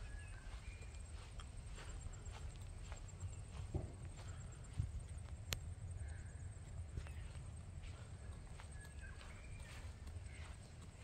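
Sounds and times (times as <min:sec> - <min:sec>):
soft footsteps: 0:00.0 - 0:05.6, 0:06.8 - 0:11.0.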